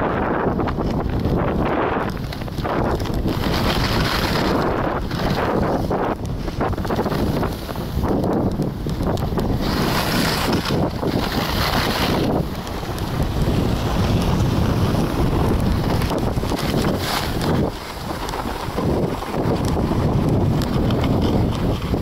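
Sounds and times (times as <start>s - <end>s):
snowboard scraping over snow: 0.0s - 22.0s
wind buffeting microphone: 0.0s - 22.0s.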